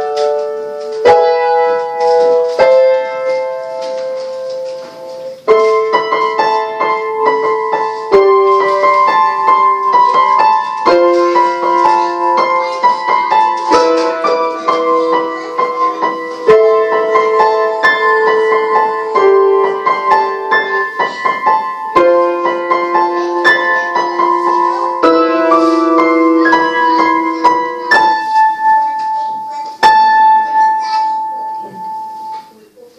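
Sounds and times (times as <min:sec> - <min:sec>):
upright piano playing: 0:00.0 - 0:32.8.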